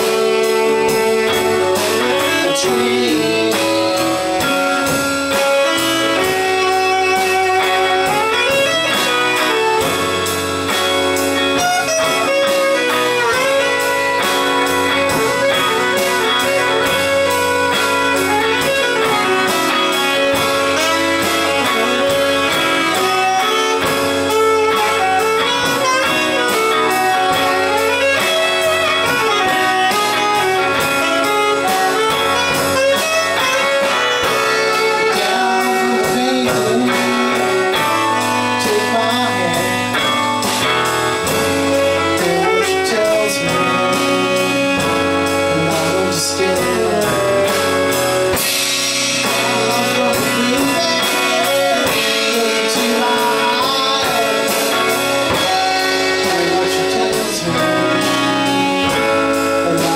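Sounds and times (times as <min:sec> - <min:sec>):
drum kit beat: 0:00.0 - 0:59.9
electric guitar: 0:00.0 - 0:59.9
saxophone: 0:00.0 - 0:59.9.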